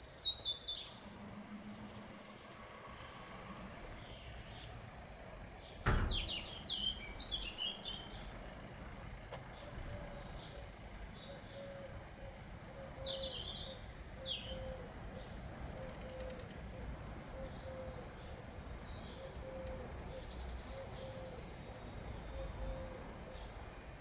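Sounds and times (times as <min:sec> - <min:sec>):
low outdoor background noise: 0:00.0 - 0:24.0
small birds chirping: 0:00.0 - 0:24.0.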